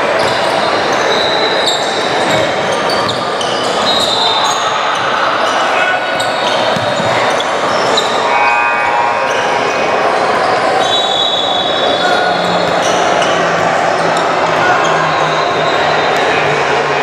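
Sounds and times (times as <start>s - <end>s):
crowd and player voices: 0.0s - 17.0s.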